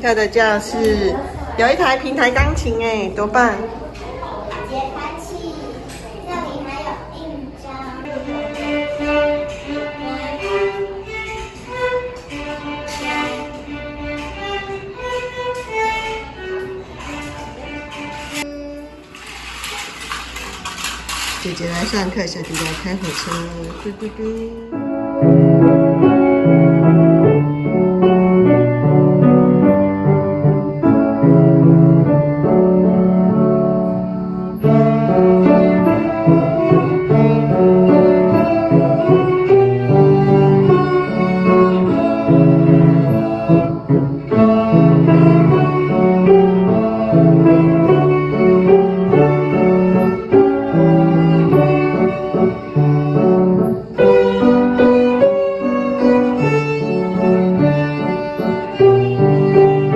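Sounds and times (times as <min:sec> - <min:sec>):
piano chords: 0:00.0 - 0:05.3, 0:08.0 - 0:59.9
violin melody: 0:08.1 - 0:20.1, 0:20.8 - 0:59.9.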